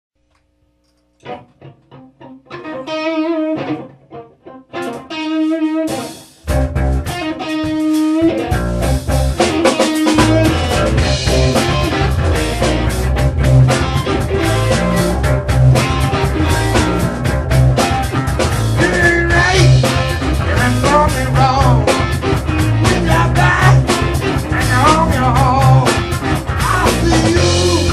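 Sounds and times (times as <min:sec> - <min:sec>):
guitar wavering notes: 0:01.2 - 0:27.9
rock band with drums: 0:04.7 - 0:27.9.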